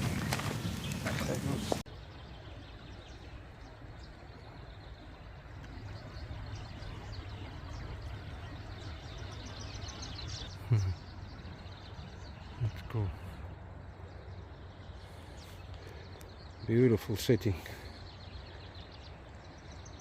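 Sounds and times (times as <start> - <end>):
low outdoor rumble: 0.0 - 20.0
small birds chirping: 0.0 - 20.0.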